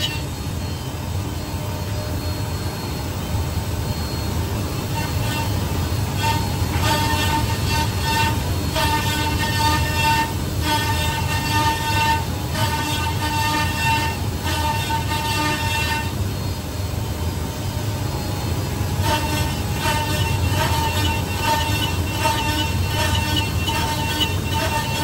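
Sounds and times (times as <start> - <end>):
high whine of router cutters: 0.0 - 25.0
low machine hum: 0.0 - 25.0.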